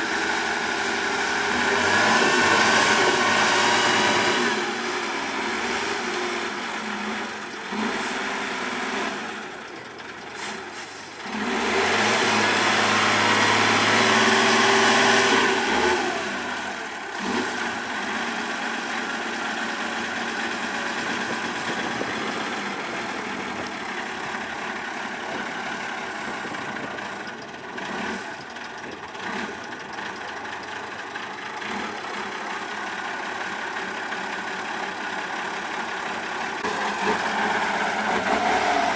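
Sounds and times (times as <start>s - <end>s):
diesel truck engine revving: 0.0s - 38.9s.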